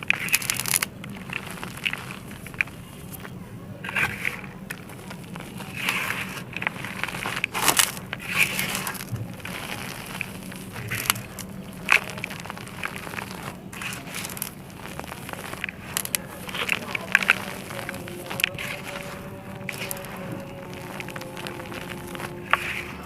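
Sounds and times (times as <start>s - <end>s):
dry lumps crunching and crackling: 0.0s - 23.0s.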